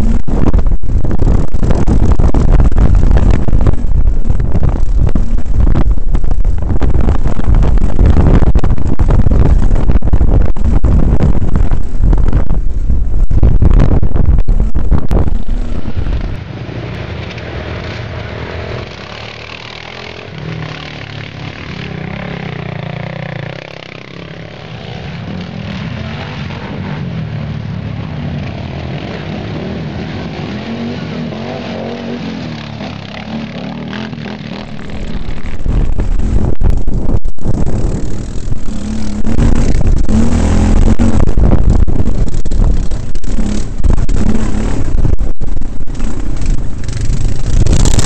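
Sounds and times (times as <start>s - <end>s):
close engine and wind rush: 0.0s - 48.0s
quad bike engines revving: 0.0s - 48.0s.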